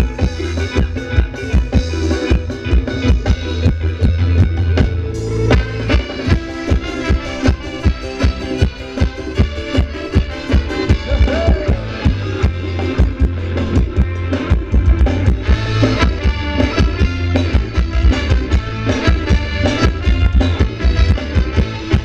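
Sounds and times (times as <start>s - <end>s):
bass line: 0.0s - 22.0s
drum beat: 0.0s - 22.0s
live band dance music: 0.0s - 22.0s.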